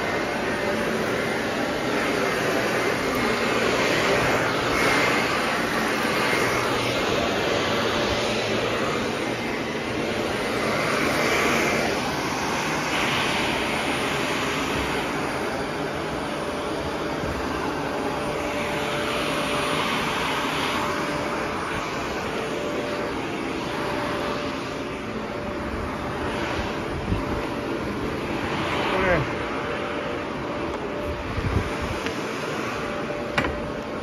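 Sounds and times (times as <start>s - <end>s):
vacuum cleaner running over carpet: 0.0s - 34.0s.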